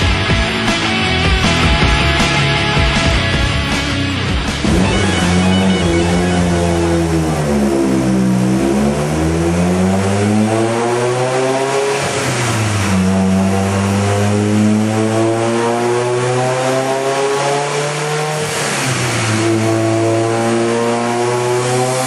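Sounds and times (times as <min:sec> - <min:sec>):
turbocharged car engine revving: 0:00.0 - 0:22.0.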